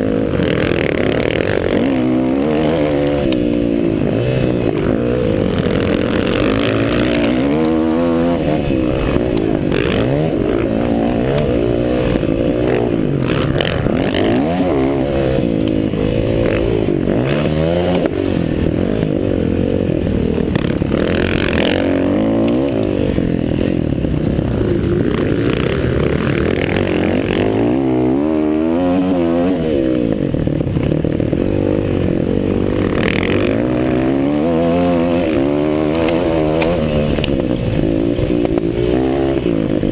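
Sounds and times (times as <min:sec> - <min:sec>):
motocross bikes revving: 0:00.0 - 0:39.9.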